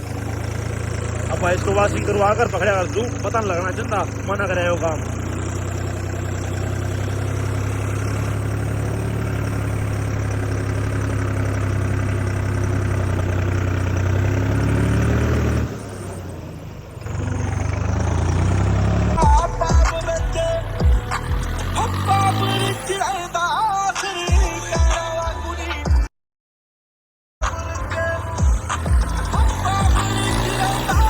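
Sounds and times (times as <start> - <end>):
tractor engine running: 0.0 - 25.4, 27.4 - 31.0.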